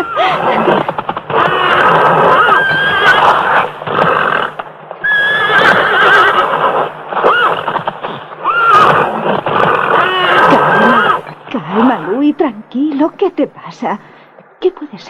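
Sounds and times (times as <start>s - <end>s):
horse whinnying: 0.0s - 12.3s
hooves knocking: 0.0s - 14.9s.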